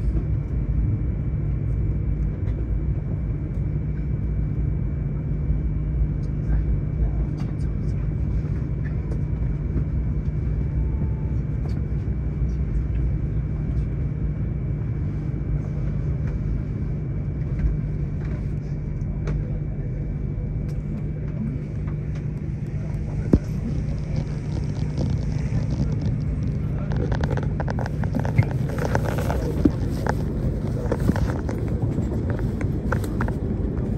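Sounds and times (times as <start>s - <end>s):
train cabin rumble: 6.4s - 33.9s.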